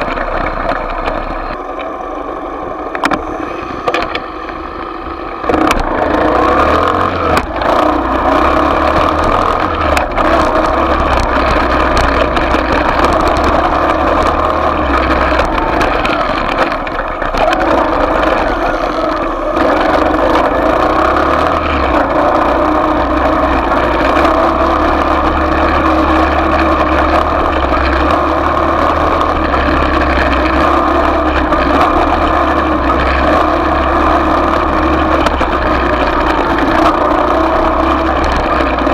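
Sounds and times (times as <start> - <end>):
motorbike engine running: 0.0 - 38.9.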